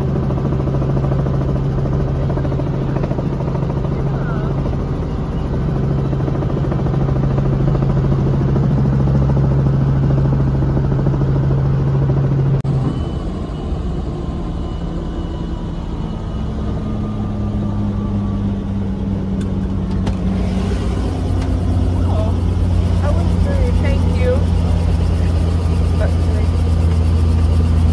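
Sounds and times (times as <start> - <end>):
helicopter rotor drone: 0.0 - 27.9.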